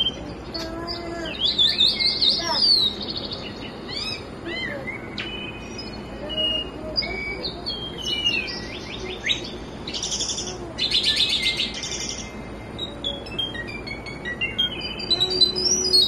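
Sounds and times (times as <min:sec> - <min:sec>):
songbird singing and trilling: 0:00.0 - 0:16.0.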